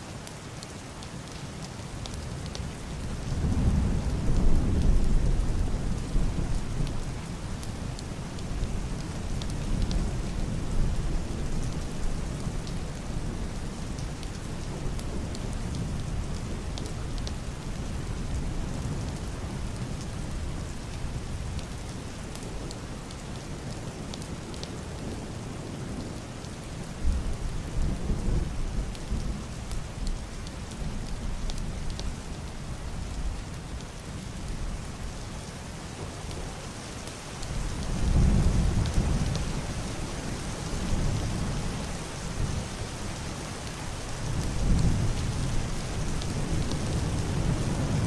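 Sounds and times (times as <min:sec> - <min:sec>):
heavy rain on roof and window: 0:00.0 - 0:48.0.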